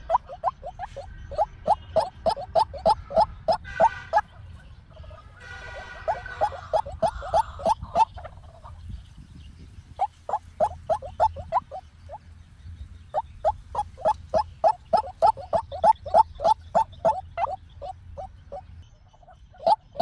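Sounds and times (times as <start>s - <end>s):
waterhen calling: 0.0s - 4.3s, 5.1s - 8.8s, 10.0s - 12.2s, 13.2s - 20.0s.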